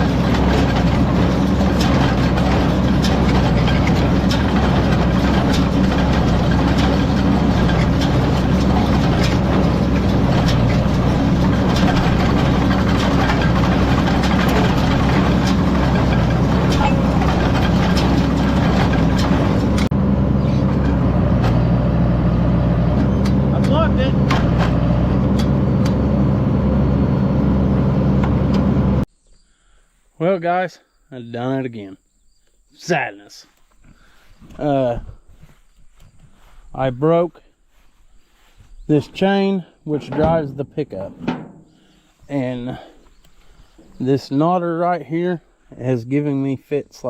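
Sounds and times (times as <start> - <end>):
hay baler clattering: 0.0 - 29.1, 34.0 - 45.5
tractor engine running: 0.0 - 29.1, 33.8 - 47.0.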